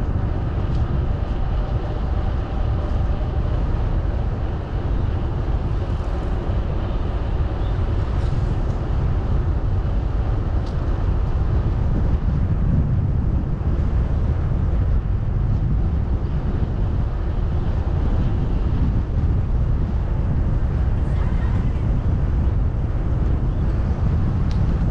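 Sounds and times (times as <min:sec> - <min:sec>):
wind rumble on microphone: 0:00.0 - 0:24.9.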